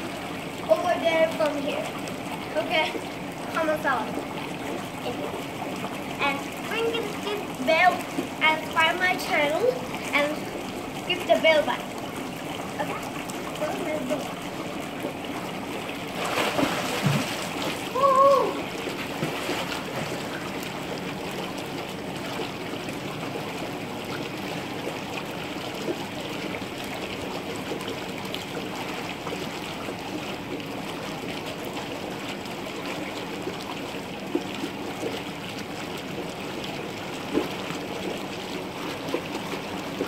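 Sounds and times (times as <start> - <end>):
pool water splashing: 0.0 - 40.0
rushing wash of water: 0.0 - 40.0.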